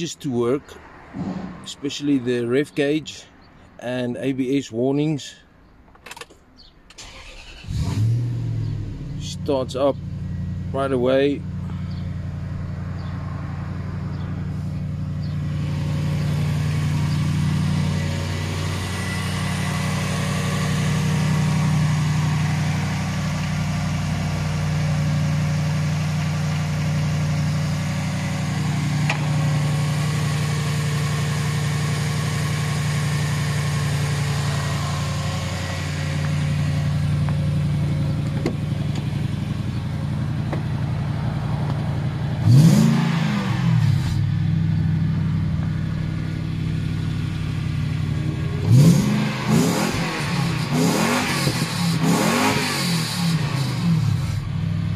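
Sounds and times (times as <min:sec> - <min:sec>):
car engine idling and revving: 0:00.0 - 0:02.4, 0:05.9 - 0:54.9.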